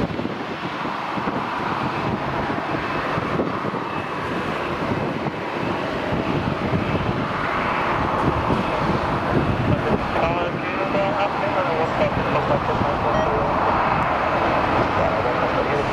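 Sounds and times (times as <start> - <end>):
jet engines rushing: 0.0 - 15.9
wind buffeting microphone: 0.0 - 15.9.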